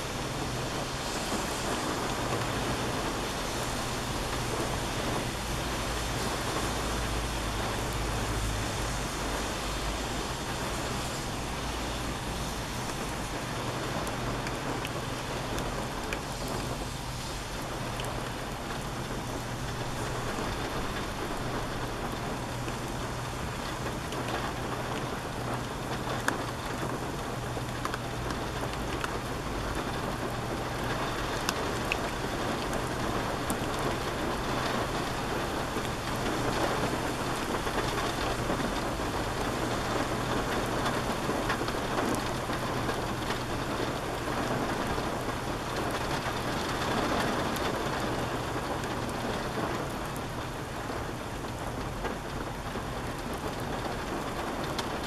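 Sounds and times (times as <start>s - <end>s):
rain falling on water: 0.0s - 55.0s.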